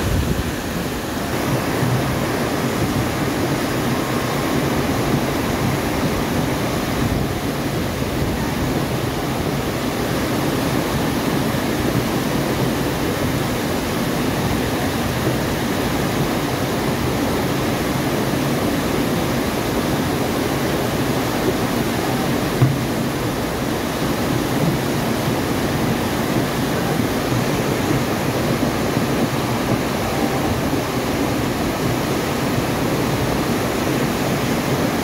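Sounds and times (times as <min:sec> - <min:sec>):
floodwater rushing down channel: 0:00.0 - 0:35.0.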